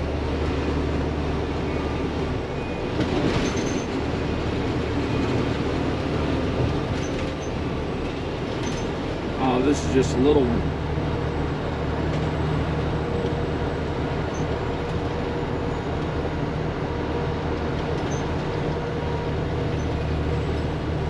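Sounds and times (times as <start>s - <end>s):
diesel engine hum: 0.0s - 21.0s
tyre and road noise: 0.0s - 21.0s.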